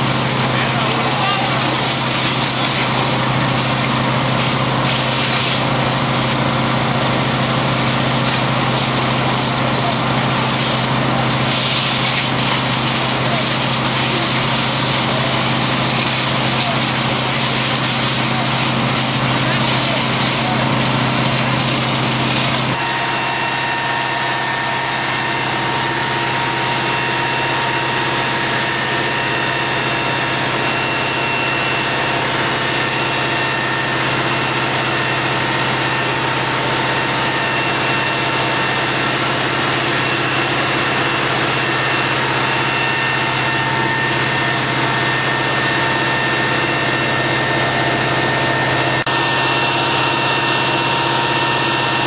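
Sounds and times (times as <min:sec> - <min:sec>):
fire engine running: 0:00.0 - 0:52.0.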